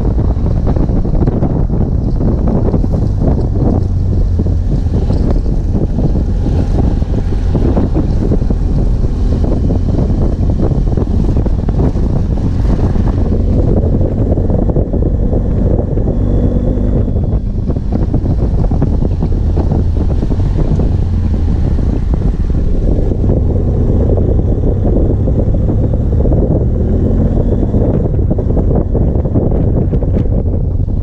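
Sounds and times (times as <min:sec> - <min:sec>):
motorcycle engine rumble: 0:00.0 - 0:31.0
wind buffeting microphone: 0:00.0 - 0:31.0.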